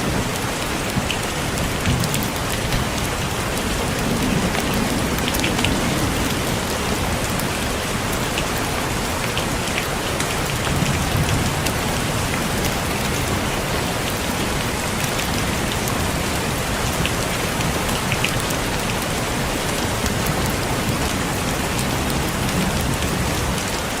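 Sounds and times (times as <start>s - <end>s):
rain on a roof: 0.0s - 24.0s.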